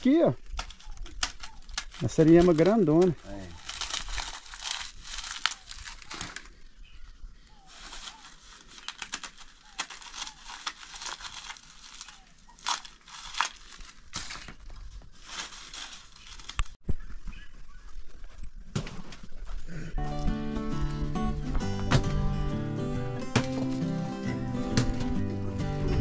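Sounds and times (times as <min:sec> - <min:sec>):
corn husks crackling and rustling: 0:00.0 - 0:20.4, 0:23.2 - 0:26.0.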